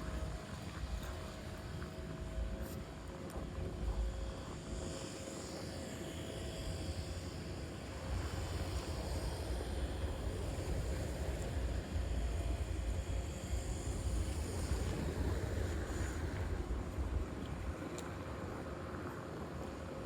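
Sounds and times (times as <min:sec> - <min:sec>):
street noise hiss: 0:00.0 - 0:20.0.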